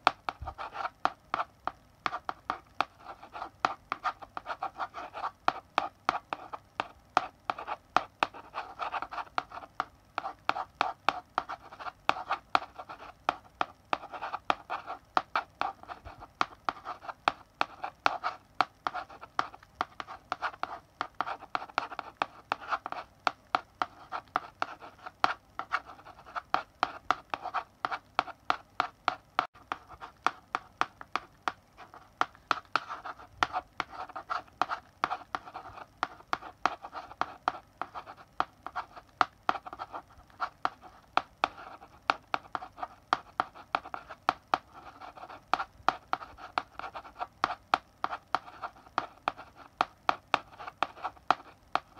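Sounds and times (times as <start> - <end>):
chalk scratching on blackboard: 0.0 - 51.9
chalk tapping on blackboard: 0.0 - 51.9.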